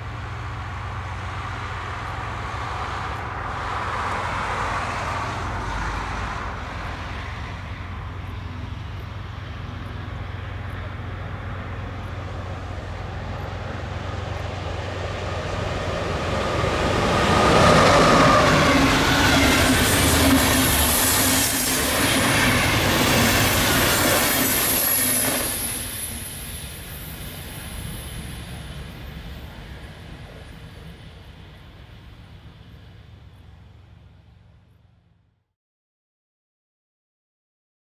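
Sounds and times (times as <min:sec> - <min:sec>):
train passing on rails: 0:00.0 - 0:35.3.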